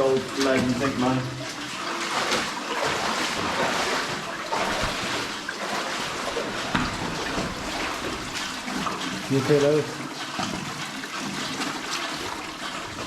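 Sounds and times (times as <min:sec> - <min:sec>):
footsteps wading through water: 0:00.0 - 0:13.0
water splashing: 0:00.0 - 0:13.0.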